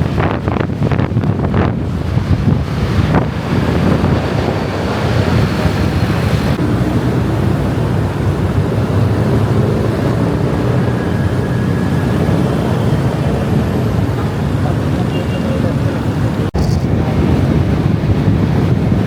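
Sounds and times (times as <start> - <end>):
scooter road and engine noise: 0.0 - 19.0
wind rushing on microphone: 0.0 - 19.0.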